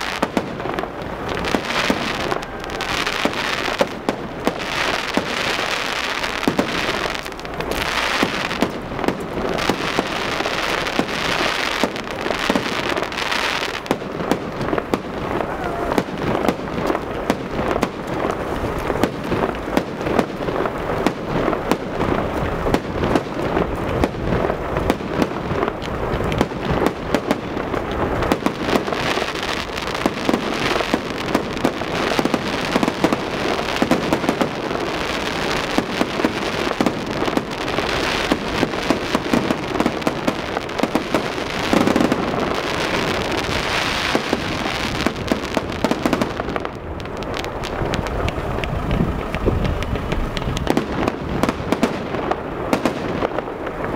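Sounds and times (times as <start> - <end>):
fireworks bursting overhead: 0.0 - 53.9
fireworks crackling overhead: 0.0 - 53.9.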